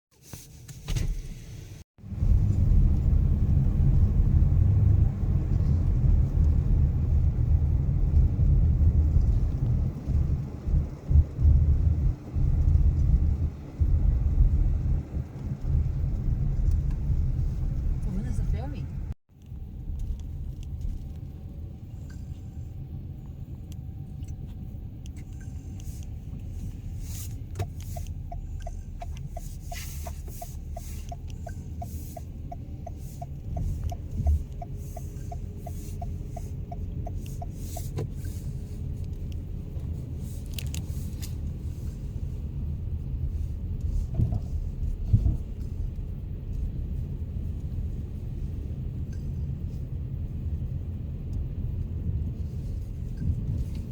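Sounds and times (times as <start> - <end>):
low engine rumble: 1.1 - 53.9.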